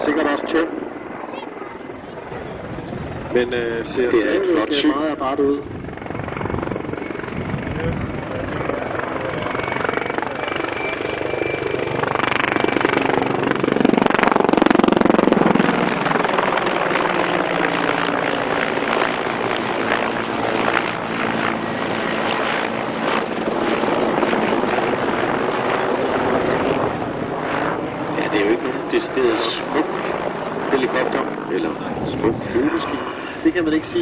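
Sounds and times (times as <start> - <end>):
helicopter rotor chop: 0.0 - 34.0.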